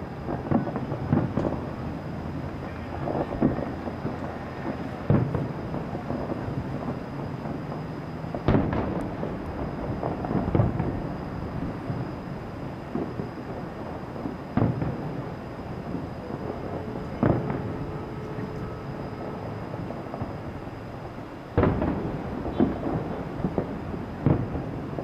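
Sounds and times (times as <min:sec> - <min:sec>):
distant firework booms: 0:00.1 - 0:25.0.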